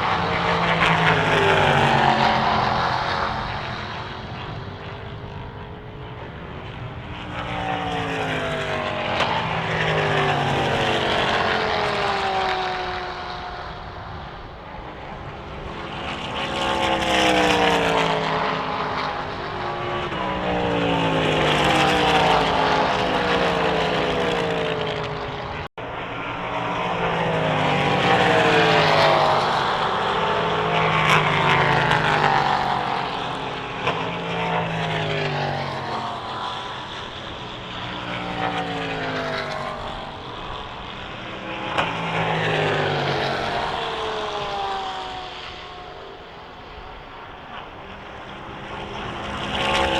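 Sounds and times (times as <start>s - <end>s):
race cars passing at speed: 0.0s - 49.9s.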